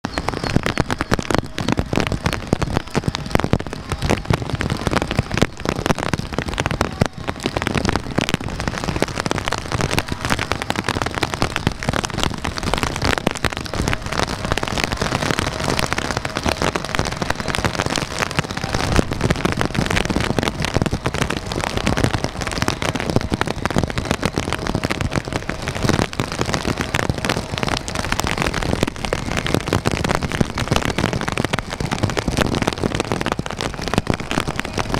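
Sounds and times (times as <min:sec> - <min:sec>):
heavy rain hissing: 0:00.0 - 0:34.9
raindrops ticking on a surface: 0:00.0 - 0:34.9.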